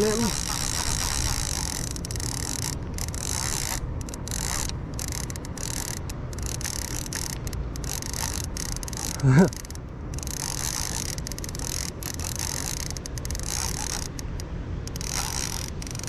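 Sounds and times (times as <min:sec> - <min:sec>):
fishing reel ticking: 0:00.0 - 0:16.0.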